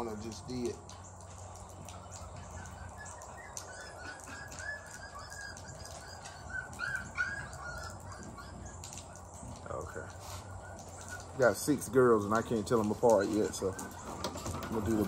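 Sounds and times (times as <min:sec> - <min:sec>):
puppies whimpering: 0:01.9 - 0:15.0.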